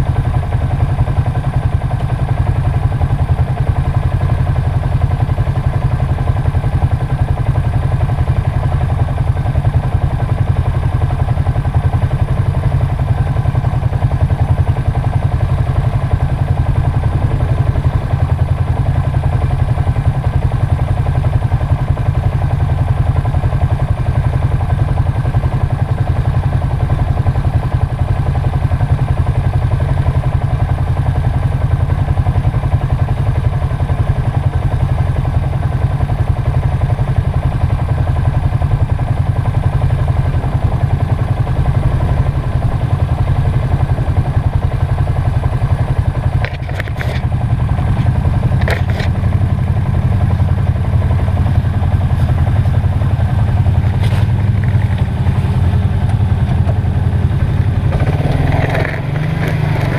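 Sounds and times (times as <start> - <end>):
atv engine running steadily: 0.0 - 59.9.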